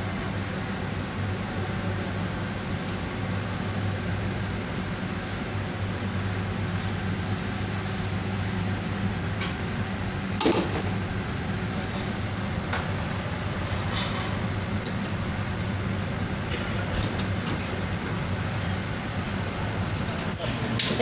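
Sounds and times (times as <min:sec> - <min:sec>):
kitchen equipment hum: 0:00.0 - 0:21.0.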